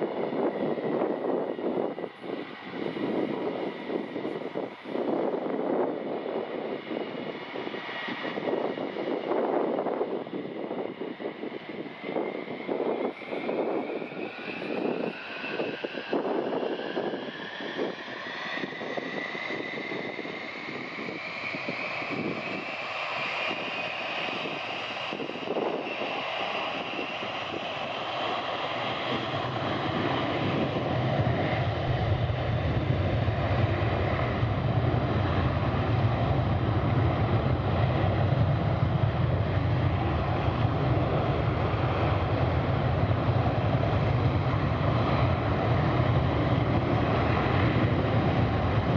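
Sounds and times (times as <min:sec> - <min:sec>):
deep jet rumble: 0:00.0 - 0:48.9
jet engines whining: 0:00.0 - 0:48.9.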